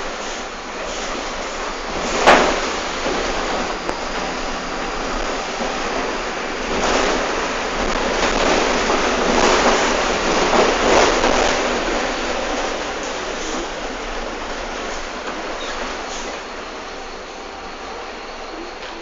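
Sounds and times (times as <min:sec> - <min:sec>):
tyres on wet road: 0:00.0 - 0:18.2
rain: 0:00.0 - 0:19.0.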